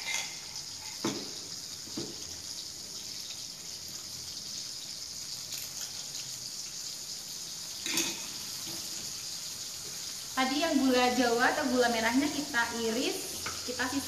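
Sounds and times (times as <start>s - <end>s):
paste sizzling in oil: 0.0s - 14.0s.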